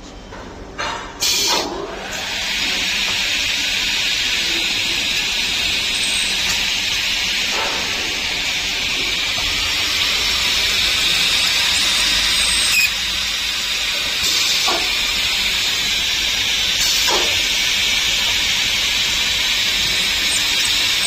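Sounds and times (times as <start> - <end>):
drilling machine hissing: 1.2 - 21.0.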